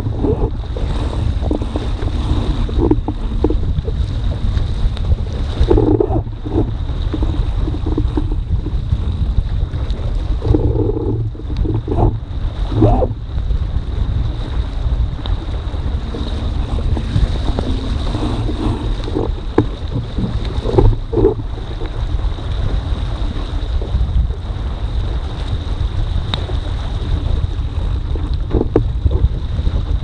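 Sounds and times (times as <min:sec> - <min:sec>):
water slapping along hull: 0:00.0 - 0:30.0
water splashes: 0:00.0 - 0:30.0
wind buffeting microphone: 0:00.0 - 0:30.0.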